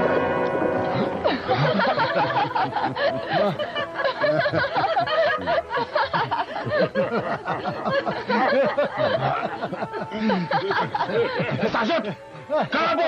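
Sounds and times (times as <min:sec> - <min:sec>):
group of people laughing: 0:00.9 - 0:13.0.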